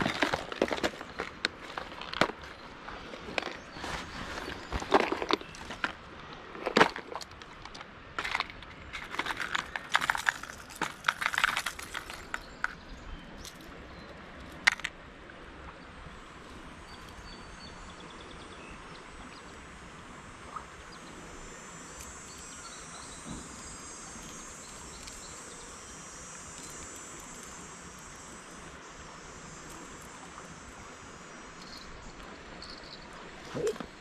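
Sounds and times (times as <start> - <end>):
insects chorus: 0.0 - 14.9, 15.8 - 34.0.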